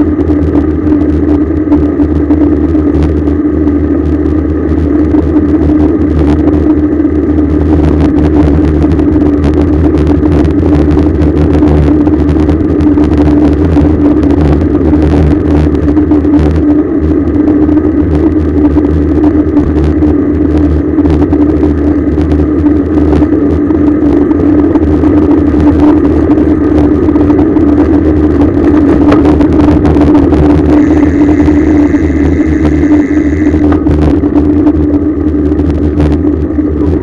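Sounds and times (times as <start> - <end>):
bicycle road noise: 0.0 - 37.0.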